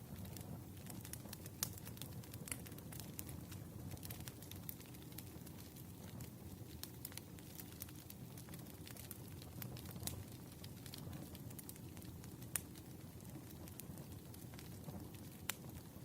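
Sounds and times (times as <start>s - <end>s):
campfire crackling: 0.1s - 16.0s.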